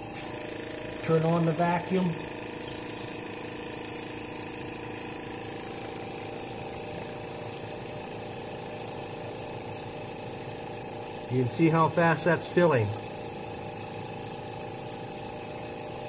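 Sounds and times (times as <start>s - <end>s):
milking vacuum hum and hiss: 0.0s - 16.0s.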